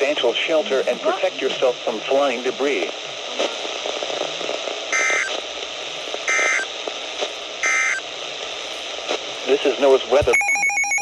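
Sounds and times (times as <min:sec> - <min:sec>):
steady radio hiss: 0:00.0 - 0:11.0.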